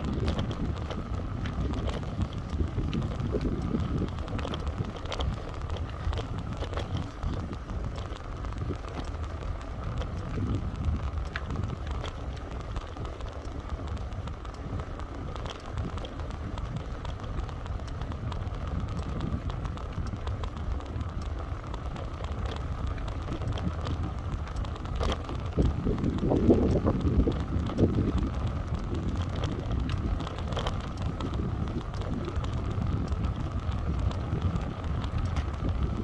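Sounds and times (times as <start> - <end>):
light raindrop ticks: 0.0 - 36.0
wind rumble on microphone: 0.0 - 36.0.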